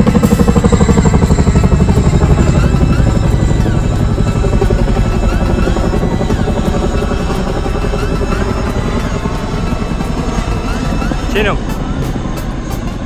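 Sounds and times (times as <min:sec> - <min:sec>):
helicopter rotors beating: 0:00.0 - 0:13.0.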